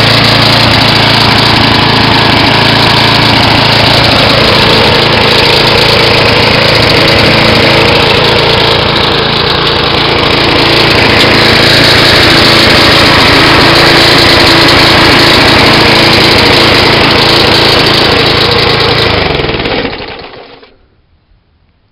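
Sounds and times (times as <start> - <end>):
lawn mower engine running: 0.0 - 20.9.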